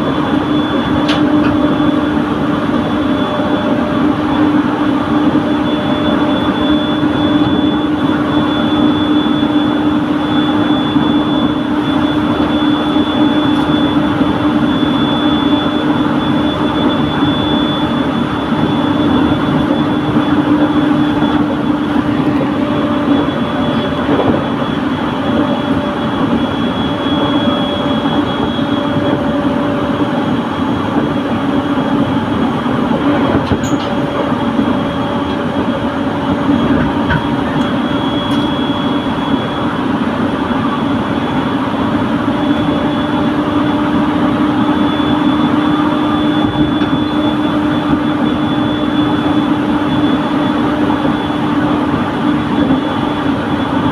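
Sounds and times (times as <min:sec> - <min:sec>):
train wheels rumbling on rail: 0:00.0 - 0:06.7, 0:09.8 - 0:53.9
steady hum: 0:00.0 - 0:53.9.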